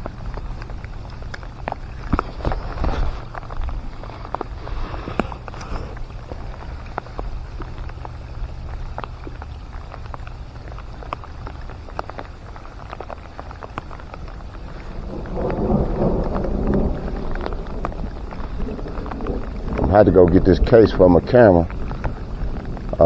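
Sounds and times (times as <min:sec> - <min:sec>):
low steady rumble: 0:00.0 - 0:23.0
raindrops ticking: 0:00.0 - 0:23.0
thunder rumbling: 0:00.0 - 0:23.0.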